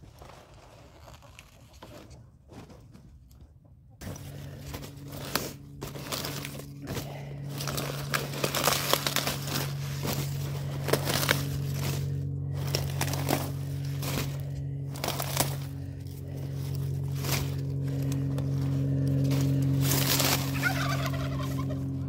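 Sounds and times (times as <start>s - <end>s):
steady low hum: 0.0s - 22.0s
leaves crackling and tearing: 4.0s - 22.0s.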